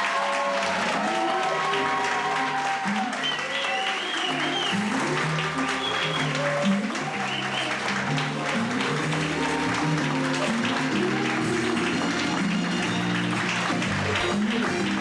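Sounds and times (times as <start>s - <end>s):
music: 0.0s - 15.0s
people applauding: 0.0s - 15.0s.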